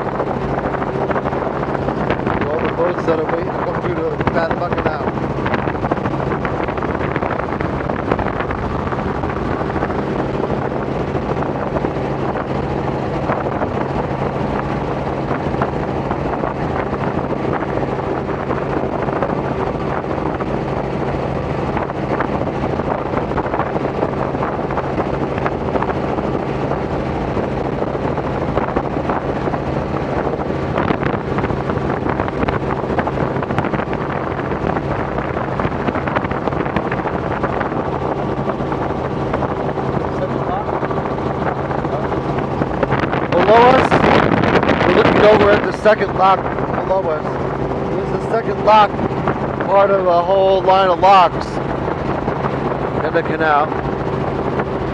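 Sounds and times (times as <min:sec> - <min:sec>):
helicopter engine and rotor drone: 0:00.0 - 0:54.9
wind noise on microphone: 0:00.0 - 0:54.9.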